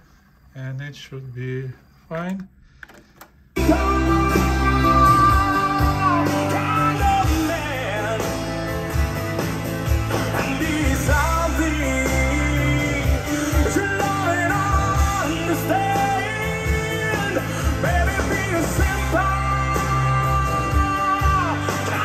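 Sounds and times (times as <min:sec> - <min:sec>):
rock song with singing: 0:03.6 - 0:22.0.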